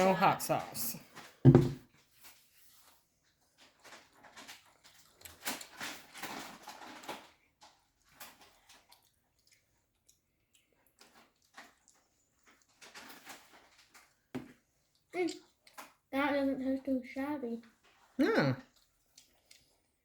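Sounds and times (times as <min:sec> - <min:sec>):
clicks and rustles of handling food: 0:01.0 - 0:16.1, 0:17.6 - 0:20.0.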